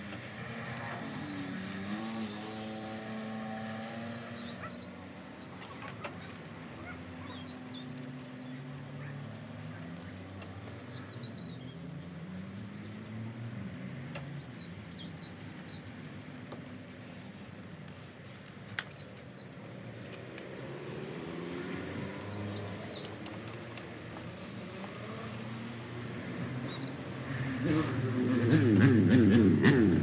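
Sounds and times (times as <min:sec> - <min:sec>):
songbird singing: 0:00.8 - 0:16.9, 0:17.9 - 0:28.1.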